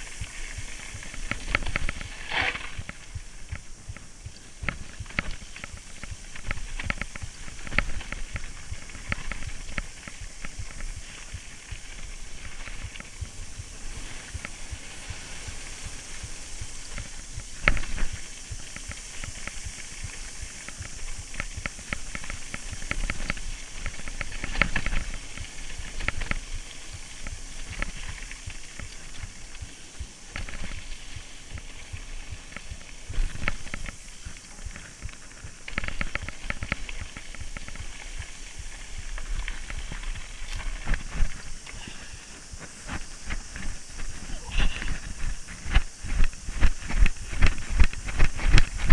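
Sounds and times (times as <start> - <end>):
bike clatters: 0.0 - 48.9
bike rattling over bumps: 0.0 - 48.9
bike tyres hissing on dirt: 0.0 - 48.9.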